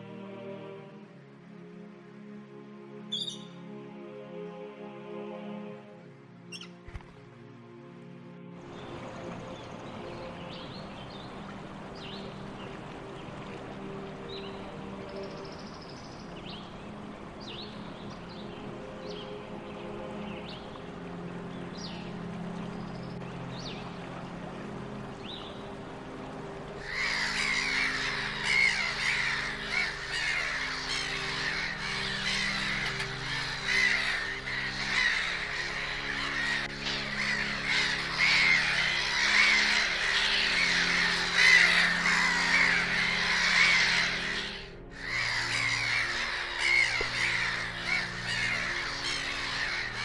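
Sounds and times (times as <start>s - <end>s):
soft low music drone: 0.0s - 50.0s
flock of birds calling: 9.8s - 50.0s.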